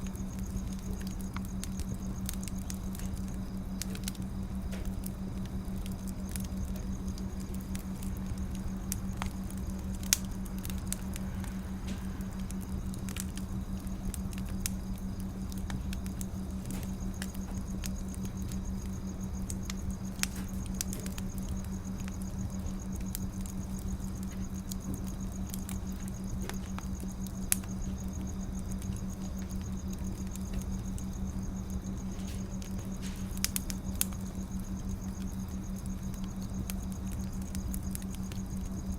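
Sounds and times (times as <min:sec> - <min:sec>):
low hum: 0:00.0 - 0:38.9
low steady rumble: 0:00.0 - 0:38.9
wood fire crackling: 0:00.0 - 0:38.9.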